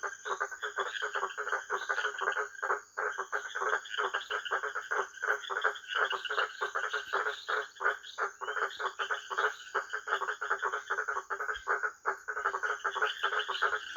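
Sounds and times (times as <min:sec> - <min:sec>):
frogs croaking: 0:00.0 - 0:13.9.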